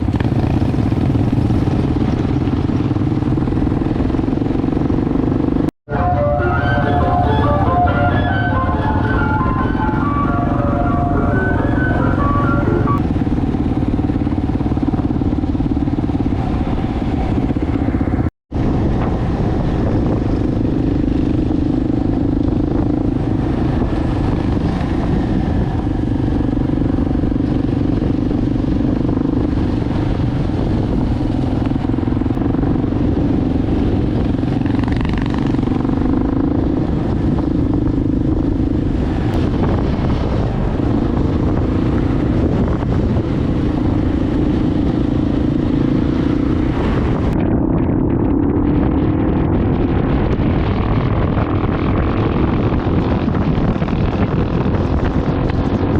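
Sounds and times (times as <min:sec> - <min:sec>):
motorbike engine running: 0:00.0 - 0:05.7, 0:10.3 - 0:55.9
road and wind noise: 0:00.0 - 0:55.9.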